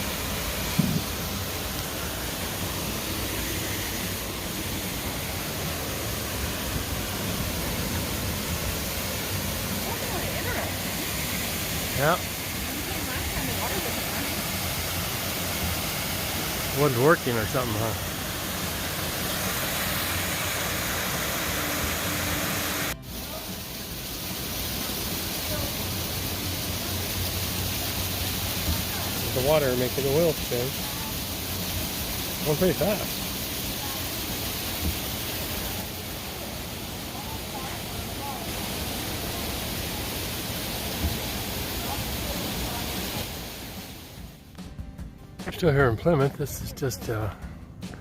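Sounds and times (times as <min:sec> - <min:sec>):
water rushing over water wheel: 0:00.0 - 0:44.4.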